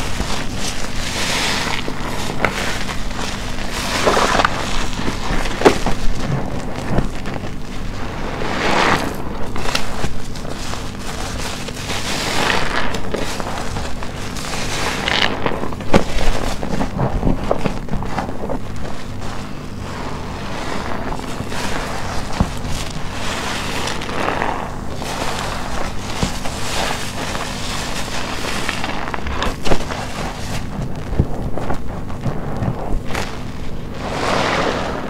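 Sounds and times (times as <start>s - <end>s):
soapy sponge squelching: 0.0s - 35.0s.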